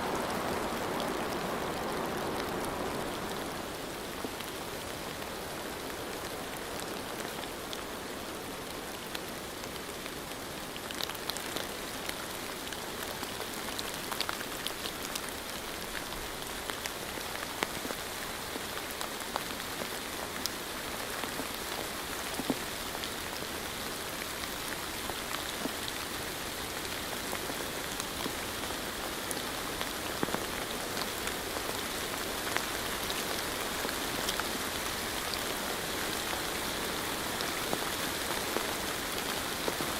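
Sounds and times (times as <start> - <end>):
raindrops pattering: 0.0 - 39.9
steady rain hiss: 0.0 - 39.9.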